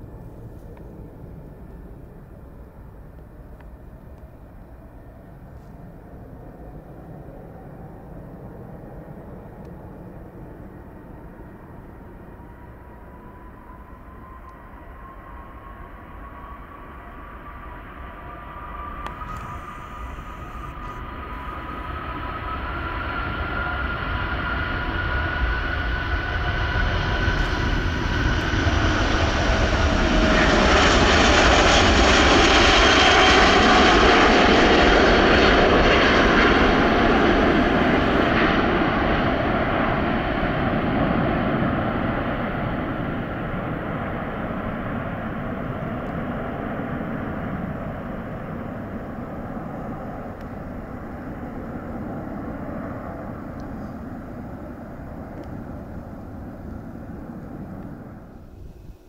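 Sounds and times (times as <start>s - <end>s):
jet aircraft taking off: 0.0s - 59.0s.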